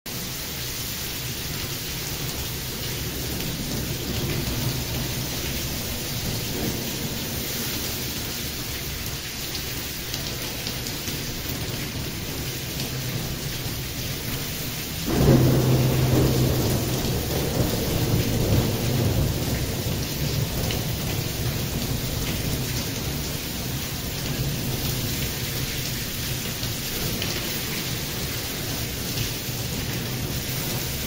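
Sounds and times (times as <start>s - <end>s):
steady rain falling: 0.1s - 31.0s
low thunder rumble: 1.2s - 31.0s.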